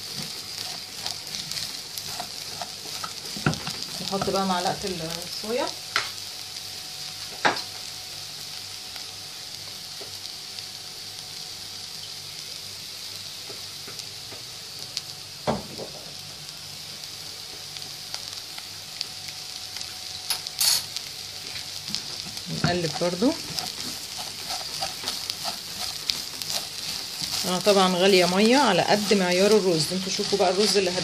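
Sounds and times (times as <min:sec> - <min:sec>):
rice and onion sizzling in a pan: 0:00.0 - 0:31.0.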